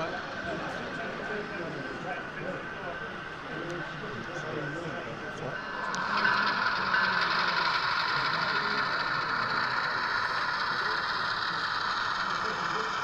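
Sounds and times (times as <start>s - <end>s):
model train motor whirring: 0.0s - 4.8s, 5.5s - 13.0s.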